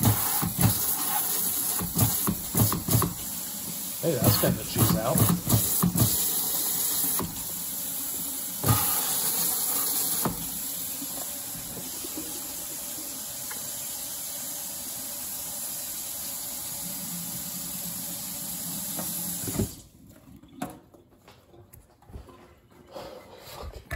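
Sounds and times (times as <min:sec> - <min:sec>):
faucet water splashing: 0:00.0 - 0:20.5.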